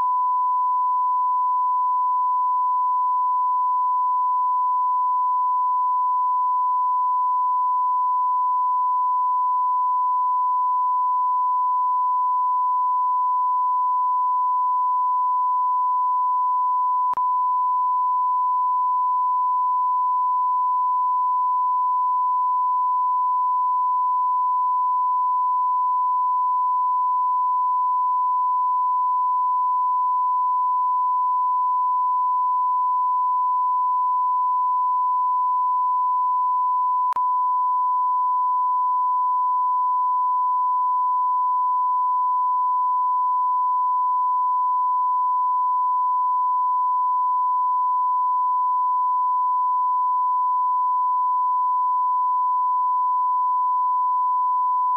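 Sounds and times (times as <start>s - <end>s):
sine wave test tone: 0.0s - 54.9s.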